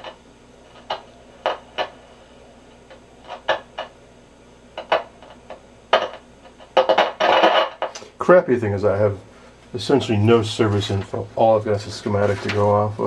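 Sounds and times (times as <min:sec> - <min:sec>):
radio low hiss: 0:00.0 - 0:13.0.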